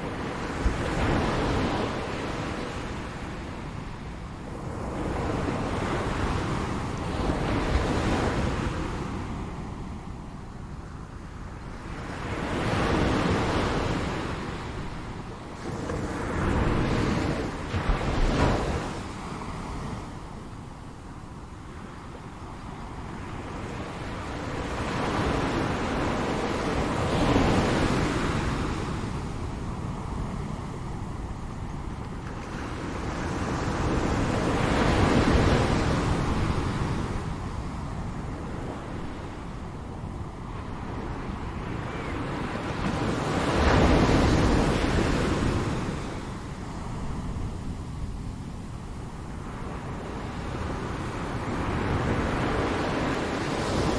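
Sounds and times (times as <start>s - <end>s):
ocean waves surf: 0.0s - 53.9s.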